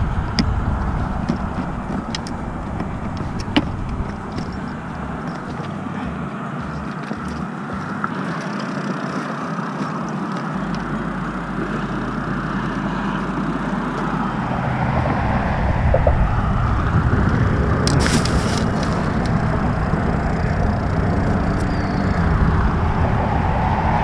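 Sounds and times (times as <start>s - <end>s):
highway traffic rushing: 0.0s - 24.0s.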